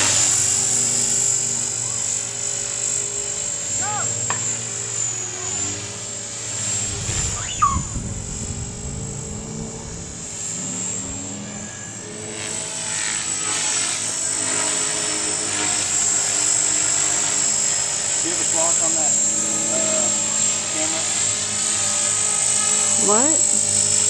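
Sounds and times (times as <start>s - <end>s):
rc helicopter motor whine: 0.0s - 24.0s.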